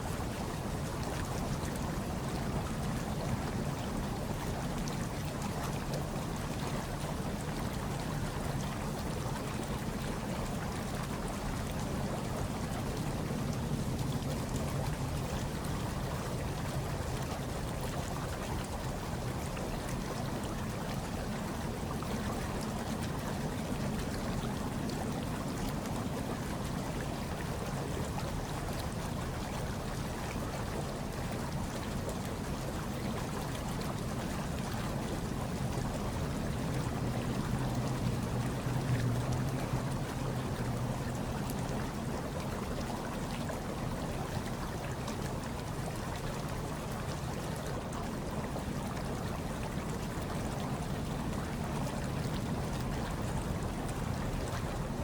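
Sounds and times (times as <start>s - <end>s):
water churning and bubbling: 0.0s - 55.0s.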